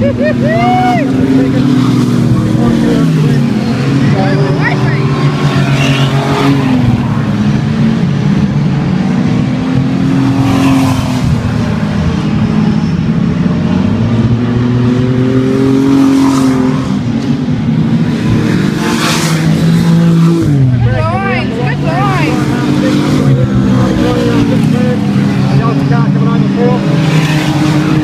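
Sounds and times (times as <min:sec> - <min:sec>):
race car engines running hard: 0:00.0 - 0:28.0.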